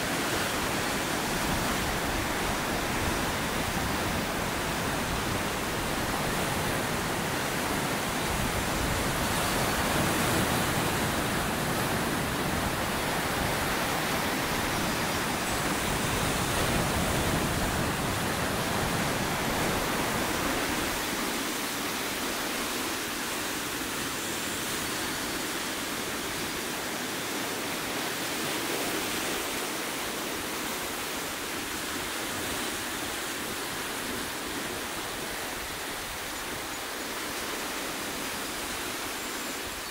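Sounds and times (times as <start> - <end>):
ocean surf on rocks: 0.0 - 39.9.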